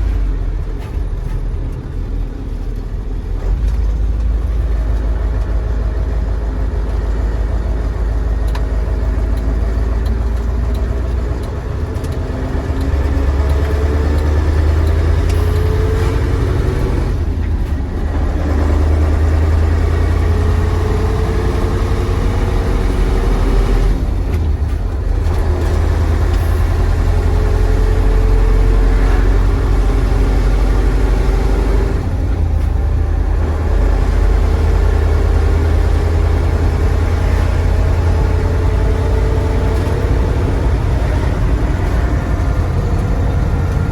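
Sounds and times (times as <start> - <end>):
diesel truck pulling under load: 0.0 - 43.9.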